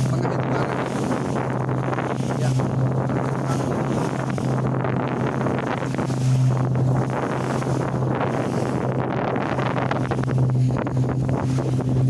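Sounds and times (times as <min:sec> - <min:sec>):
boat motor humming: 0:00.0 - 0:12.0
water rushing past hull: 0:00.0 - 0:12.0
wind buffeting microphone: 0:00.0 - 0:12.0.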